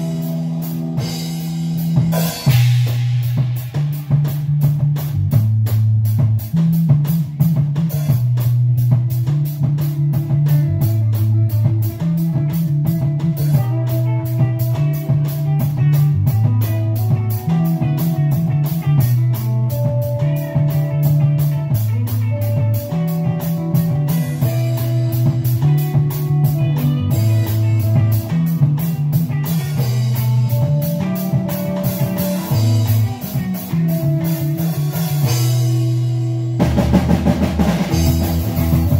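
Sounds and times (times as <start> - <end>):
drum kit: 0.0 - 38.9
electric bass riff: 0.0 - 38.9
electric guitars: 0.0 - 38.9.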